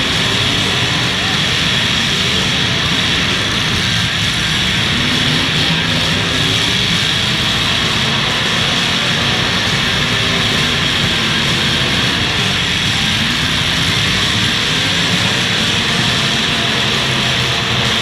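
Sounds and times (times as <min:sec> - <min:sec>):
car engines droning: 0:00.0 - 0:18.0.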